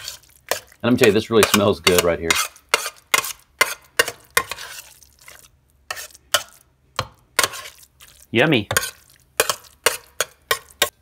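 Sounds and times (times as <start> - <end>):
spoon scraping metal bowl: 0.0 - 6.6, 7.4 - 11.0.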